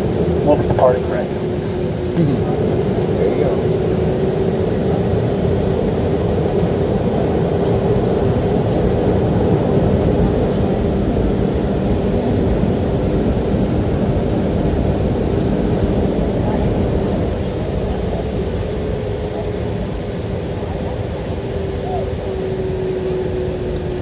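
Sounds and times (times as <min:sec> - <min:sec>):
jet cabin rumble and hum: 0:00.0 - 0:24.0.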